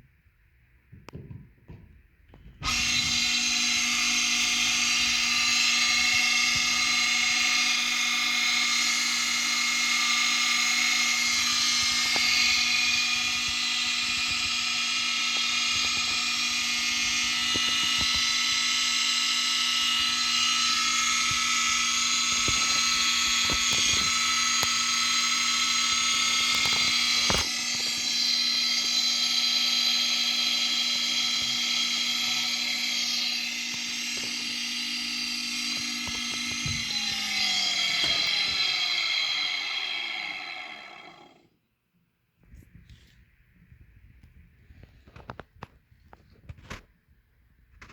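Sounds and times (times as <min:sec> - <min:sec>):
electric pump motor whining: 0:02.4 - 0:41.6.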